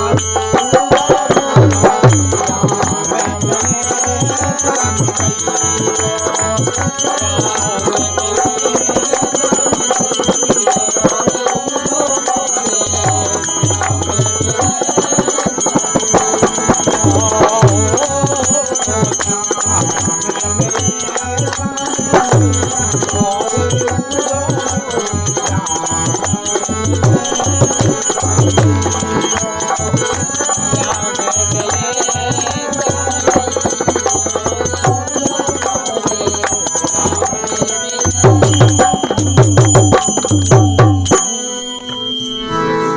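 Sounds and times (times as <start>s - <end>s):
dholak drum beat: 0.0s - 42.1s
voices singing: 0.0s - 42.3s
harmonium: 0.0s - 42.9s
jingling hand cymbals: 0.0s - 42.9s.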